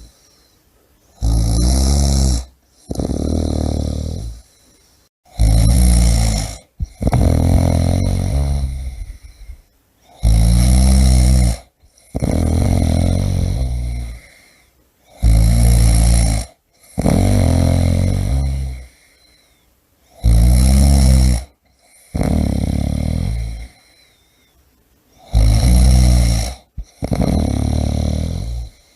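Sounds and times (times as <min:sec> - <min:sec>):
person snoring: 0:01.2 - 0:19.5, 0:20.1 - 0:24.2, 0:25.2 - 0:28.9.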